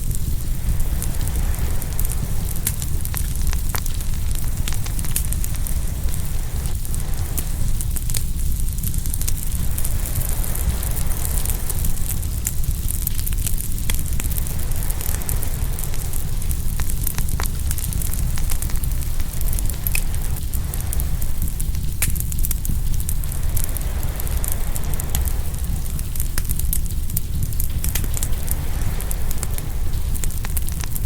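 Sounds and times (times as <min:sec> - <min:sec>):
low rumble: 0:00.0 - 0:31.0
wood fire crackling and popping: 0:00.0 - 0:31.0.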